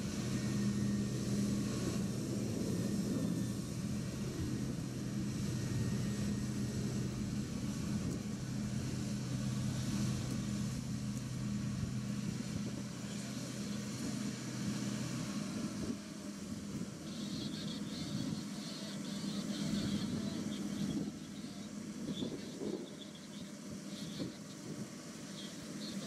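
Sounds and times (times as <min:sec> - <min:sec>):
heavy machinery engine humming: 0:00.0 - 0:26.0.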